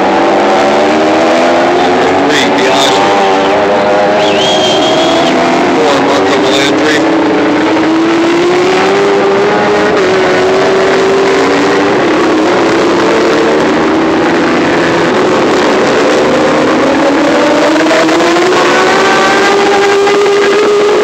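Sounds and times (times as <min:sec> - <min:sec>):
motorcycle engines at high revs: 0:00.0 - 0:21.0.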